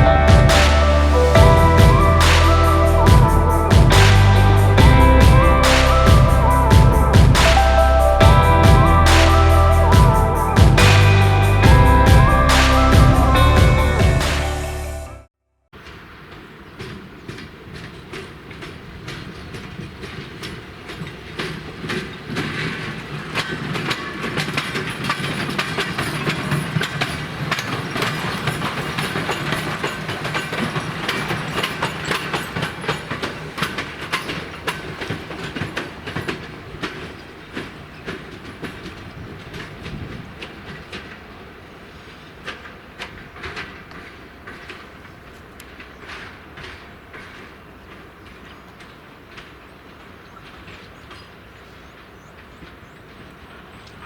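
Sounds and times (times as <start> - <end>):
train wheels clattering on rails: 0.0 - 14.6, 15.8 - 54.0.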